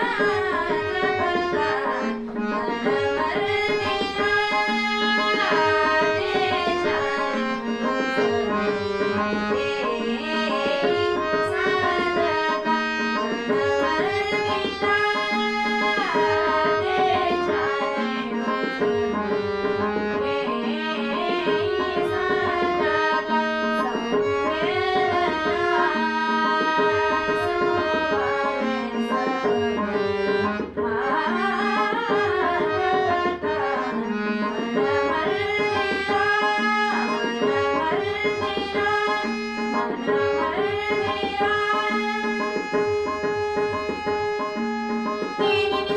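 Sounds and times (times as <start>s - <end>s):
tabla rhythm: 0.0s - 45.9s.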